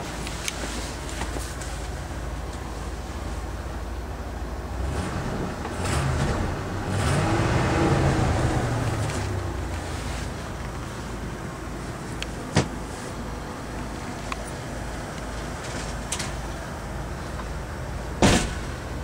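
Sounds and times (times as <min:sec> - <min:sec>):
motorhome engine revving: 0:03.2 - 0:19.0.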